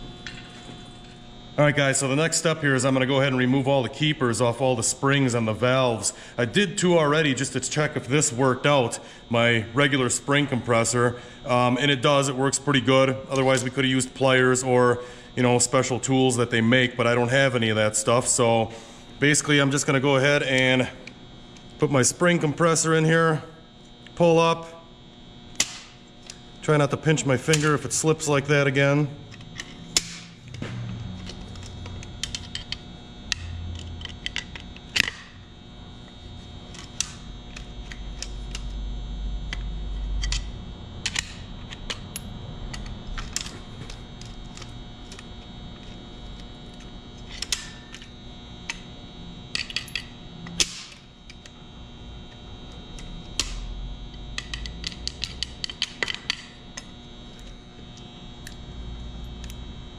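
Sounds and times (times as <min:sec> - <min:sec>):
background hum: 0:00.0 - 0:59.9.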